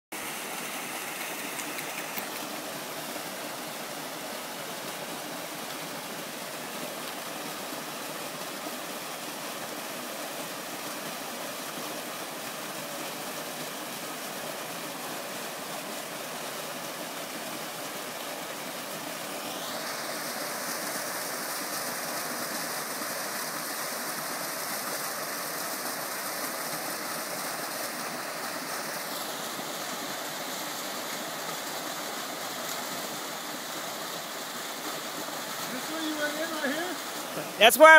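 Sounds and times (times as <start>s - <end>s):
waterfall rushing: 0.2s - 37.9s.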